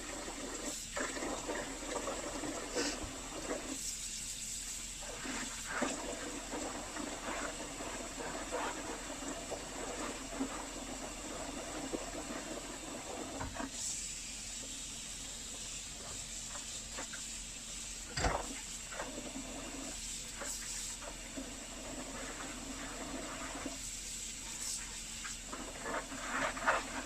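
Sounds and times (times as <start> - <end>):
water running and sloshing: 0.0 - 27.0
steady hiss: 2.6 - 27.0.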